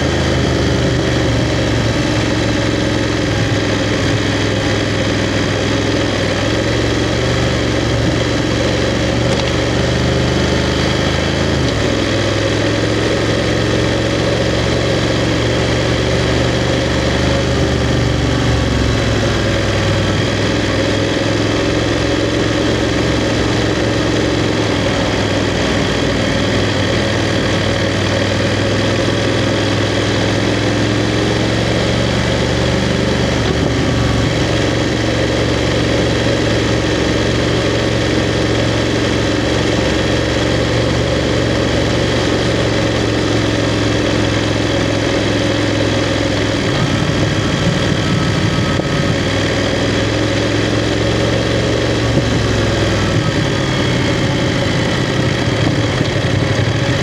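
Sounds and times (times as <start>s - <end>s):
motorcycle engine running at low revs: 0.0s - 57.0s.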